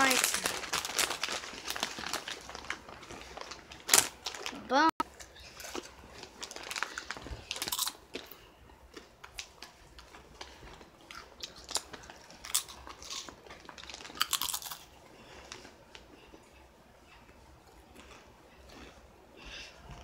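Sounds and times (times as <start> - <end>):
potato chips crunched and chewed: 0.0 - 16.4.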